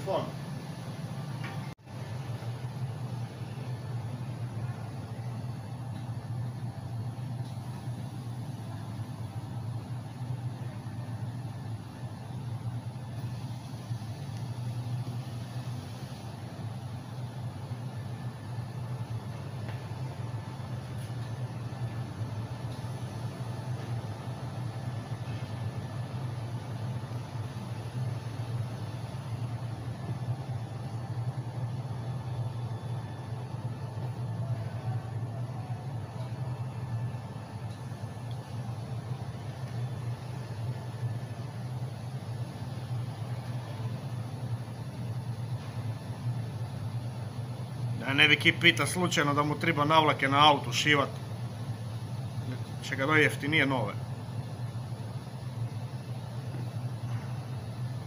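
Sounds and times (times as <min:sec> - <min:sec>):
industrial machinery hum: 0:00.0 - 0:58.0.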